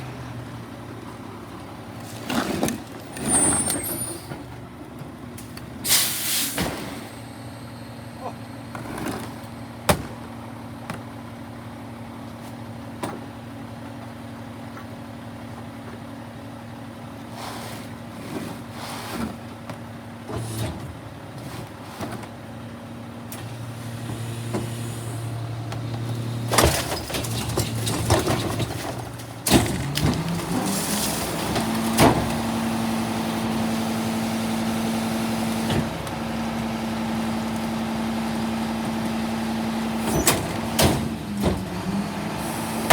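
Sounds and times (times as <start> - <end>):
garbage truck engine: 0.0 - 42.9.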